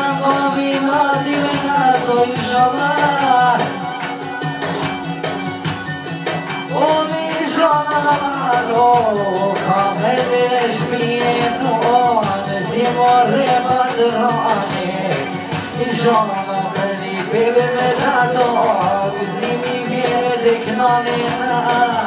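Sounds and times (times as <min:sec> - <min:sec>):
man singing into a microphone: 0:00.0 - 0:05.1, 0:05.9 - 0:22.0
instrumental backing music: 0:00.0 - 0:22.0.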